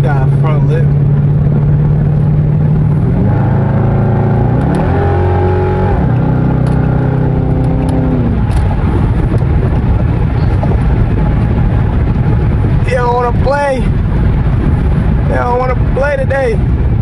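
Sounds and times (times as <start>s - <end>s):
car engine droning and revving: 0.0s - 17.0s.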